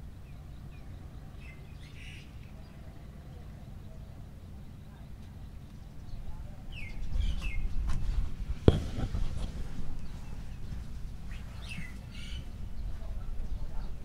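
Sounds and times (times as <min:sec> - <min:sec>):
birds chirping: 0:00.0 - 0:14.0
low steady rumble: 0:00.0 - 0:14.0.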